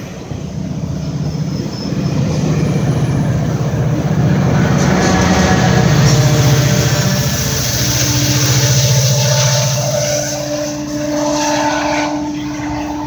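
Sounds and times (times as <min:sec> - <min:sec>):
diesel locomotive engine drone: 0:00.0 - 0:13.0
steady tone: 0:00.4 - 0:13.0.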